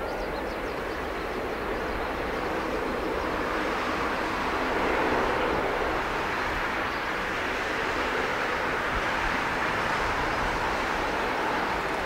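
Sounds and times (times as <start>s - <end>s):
turboprop aircraft engine drone: 0.0s - 12.0s.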